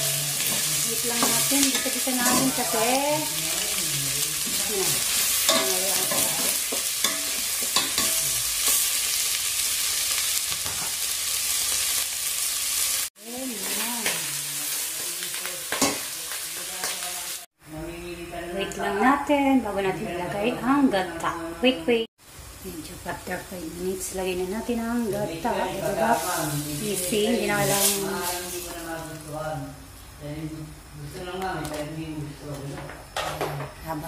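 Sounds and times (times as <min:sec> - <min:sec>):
meat sizzling in a pot: 0:00.0 - 0:17.6, 0:22.0 - 0:31.8.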